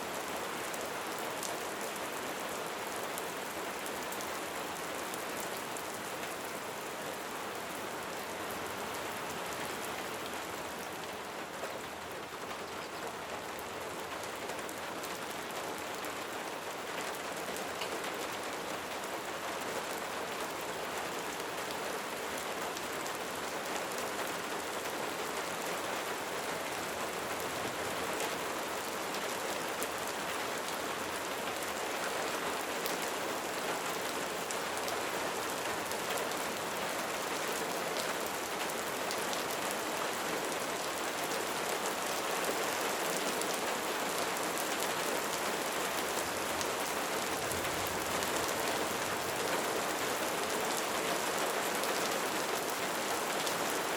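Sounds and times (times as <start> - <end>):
light rain pattering: 0.0 - 53.9.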